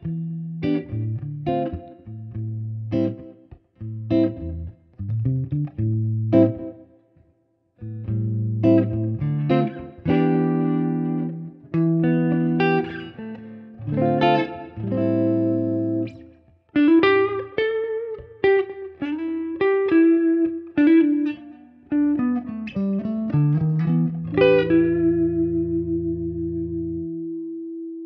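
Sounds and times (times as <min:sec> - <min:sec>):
clean electric guitar: 0:00.0 - 0:07.0, 0:07.8 - 0:28.0.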